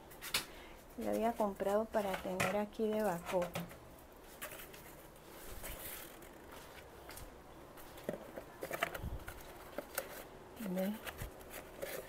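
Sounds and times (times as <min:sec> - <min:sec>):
faint rustling: 0:00.2 - 0:12.0.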